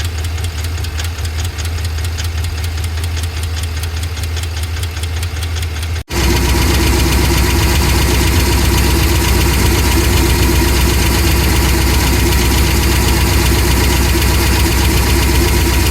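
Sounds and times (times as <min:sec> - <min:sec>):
engine ticking and knocking: 0:00.0 - 0:15.9.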